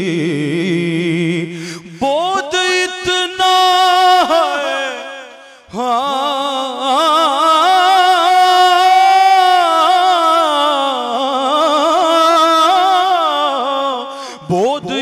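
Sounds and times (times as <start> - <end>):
man singing devotional melody: 0.0 - 15.0.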